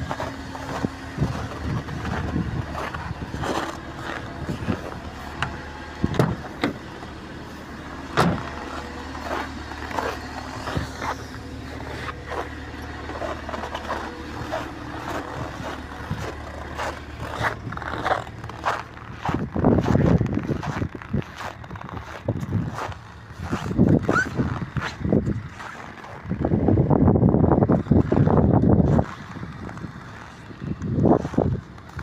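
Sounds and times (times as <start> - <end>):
sharp knocks and crunches: 0.0 - 26.6
vehicle engine running: 0.0 - 32.0.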